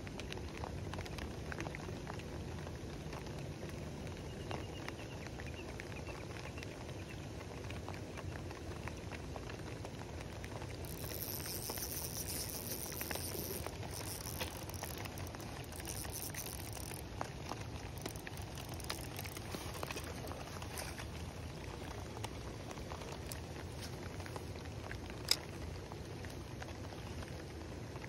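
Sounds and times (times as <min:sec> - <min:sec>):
rain pattering on pond water: 0:00.0 - 0:28.0.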